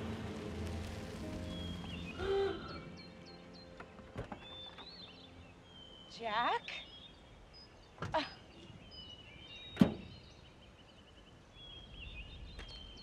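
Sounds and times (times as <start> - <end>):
birds chirping and trilling: 1.3 - 13.0.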